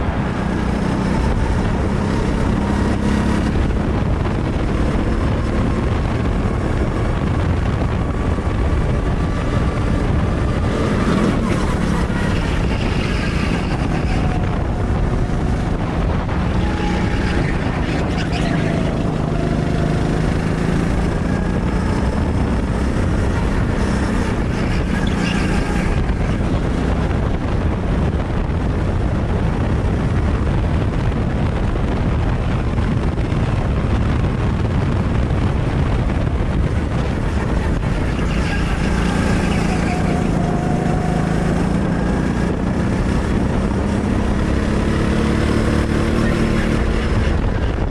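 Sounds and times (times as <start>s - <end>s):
go-kart engine running hard: 0.0s - 47.9s
wind noise: 0.0s - 47.9s.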